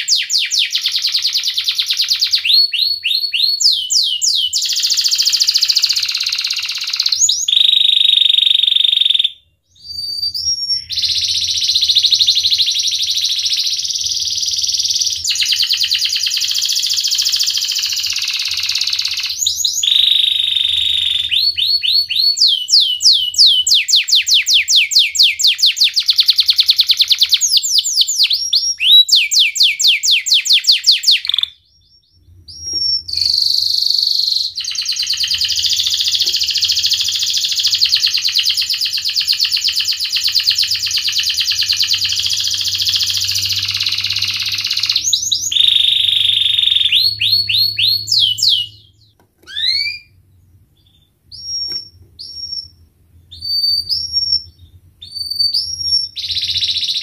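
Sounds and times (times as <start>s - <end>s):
canary singing trills: 0.0s - 50.2s, 50.8s - 57.0s.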